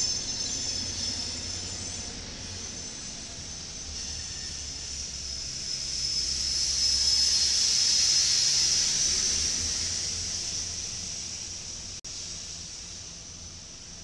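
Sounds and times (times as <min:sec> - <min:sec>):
low train rumble: 0:00.0 - 0:14.0
steel wheels hissing on rail: 0:00.0 - 0:14.0.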